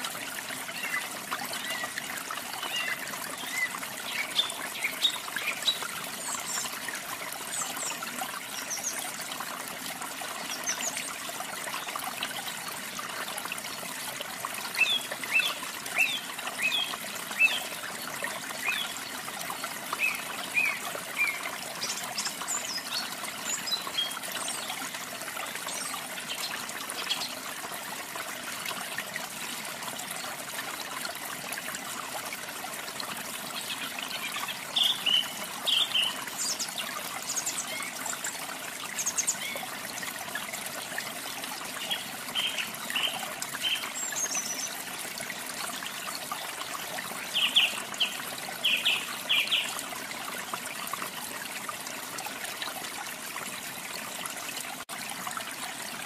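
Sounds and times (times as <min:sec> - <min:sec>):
trickling stream water: 0:00.0 - 0:56.0.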